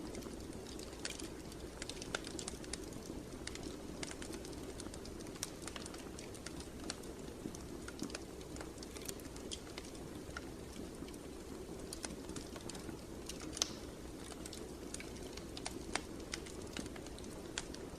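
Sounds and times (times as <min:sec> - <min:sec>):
flames rushing: 0:00.0 - 0:17.9
wood fire crackling: 0:00.0 - 0:17.9.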